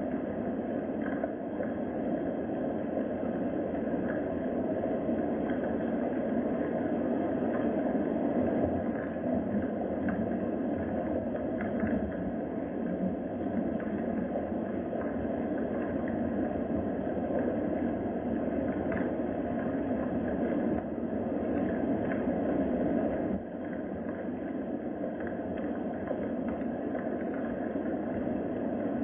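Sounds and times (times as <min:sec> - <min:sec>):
faint ticks: 0:00.0 - 0:02.4, 0:03.2 - 0:29.0.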